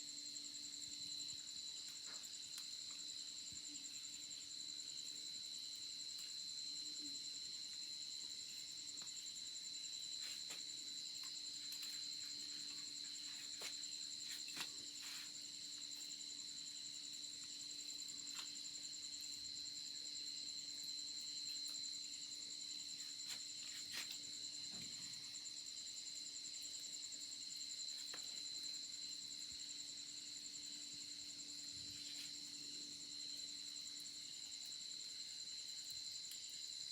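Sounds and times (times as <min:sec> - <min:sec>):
crickets trilling: 0:00.0 - 0:36.9.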